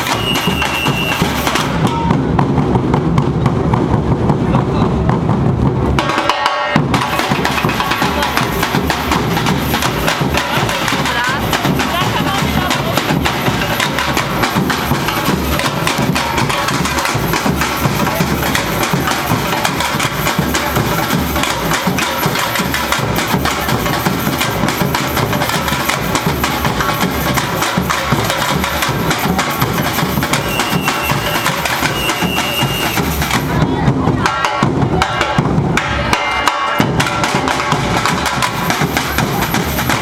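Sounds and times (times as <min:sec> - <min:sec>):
deep bass drum pulses: 0:00.0 - 0:06.2, 0:06.8 - 0:36.1
samba percussion ensemble: 0:00.0 - 0:40.0.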